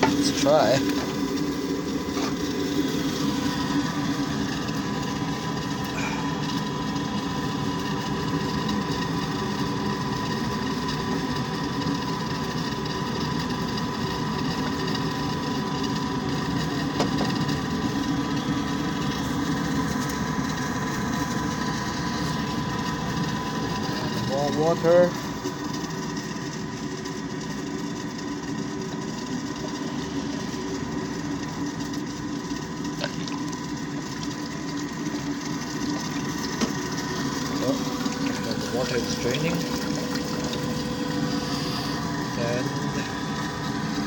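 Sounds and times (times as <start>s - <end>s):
furnace fan motor humming: 0.0s - 44.0s.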